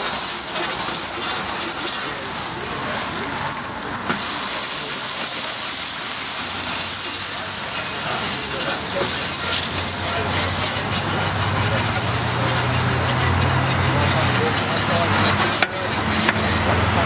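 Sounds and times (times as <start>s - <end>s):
water hissing and sizzling: 0.0s - 16.8s
grill brush scrubbing: 0.0s - 17.0s.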